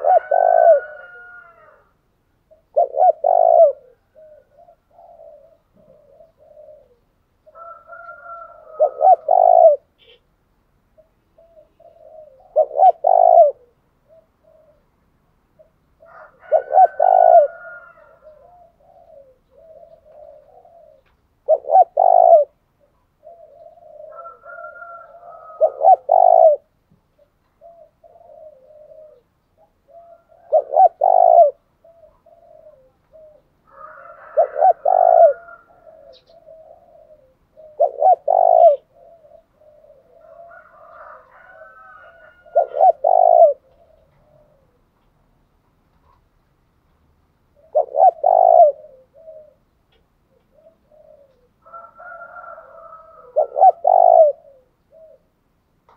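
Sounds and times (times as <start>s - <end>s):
doves cooing: 0.0s - 10.3s, 10.9s - 15.0s, 15.6s - 45.1s, 47.5s - 55.4s.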